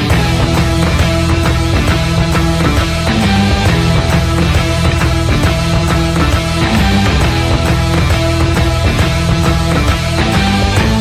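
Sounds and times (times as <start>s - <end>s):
rock music with steady beat: 0.0s - 11.0s.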